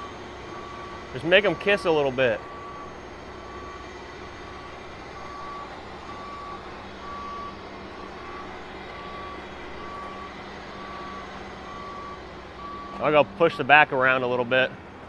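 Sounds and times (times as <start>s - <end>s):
warning alarm beeping: 0.0s - 13.8s
diesel engine drone: 0.0s - 15.0s.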